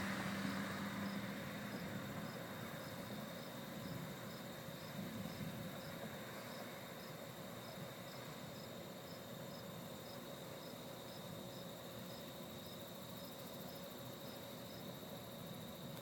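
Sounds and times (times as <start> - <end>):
cricket steady high trill: 0.0 - 16.0.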